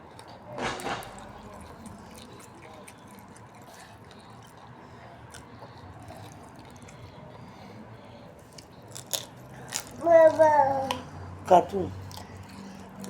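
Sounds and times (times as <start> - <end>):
wet mouth clicks of chewing: 0.0 - 7.6, 8.4 - 11.2, 12.0 - 13.0.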